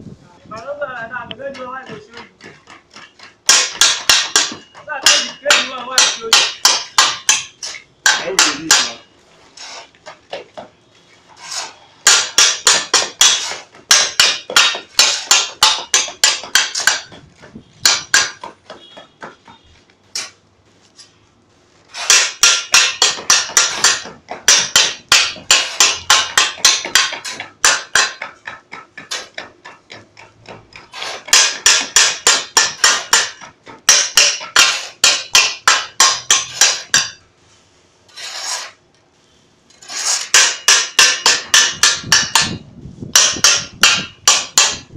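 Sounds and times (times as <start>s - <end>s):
stamping mat striking concrete: 1.5s - 9.1s, 9.7s - 10.8s, 11.4s - 20.4s, 21.9s - 37.2s, 39.8s - 44.9s.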